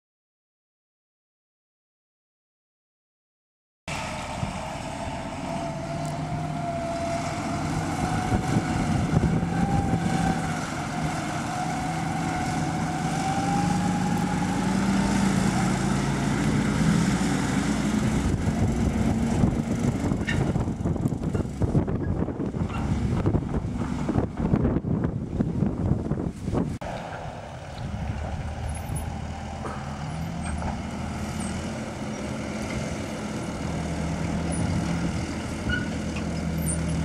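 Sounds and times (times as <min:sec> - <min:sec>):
tractor engine running: 0:03.9 - 0:37.0.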